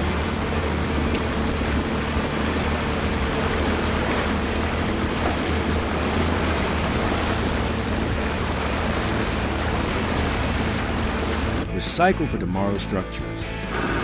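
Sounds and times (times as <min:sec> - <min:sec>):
low constant hum: 0:00.0 - 0:11.7
steady rushing noise: 0:00.0 - 0:11.7.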